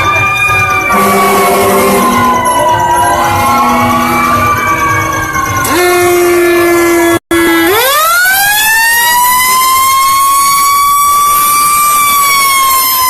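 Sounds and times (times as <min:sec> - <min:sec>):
fire truck siren: 0:00.0 - 0:13.0.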